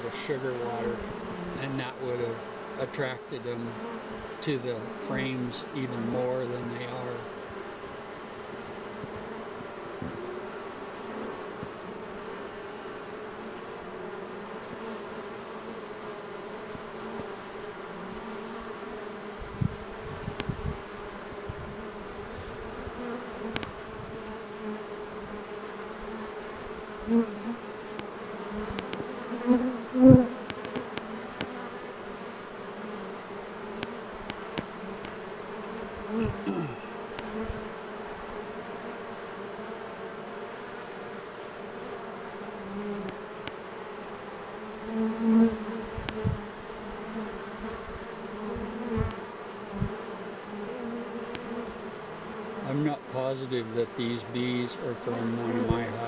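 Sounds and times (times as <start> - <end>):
swarm of bees buzzing: 0.0 - 56.0
single bee buzzing close past: 0.2 - 56.0.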